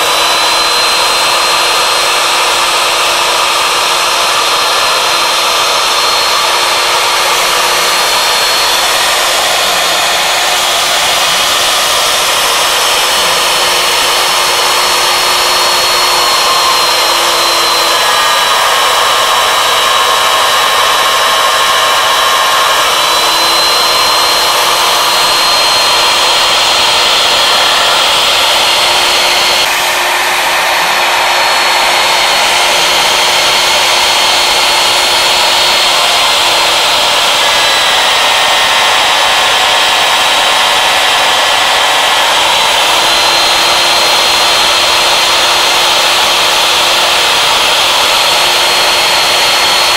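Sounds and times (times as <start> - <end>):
end mill cutting wood: 0.0 - 49.9
router spindle whining: 0.0 - 49.9.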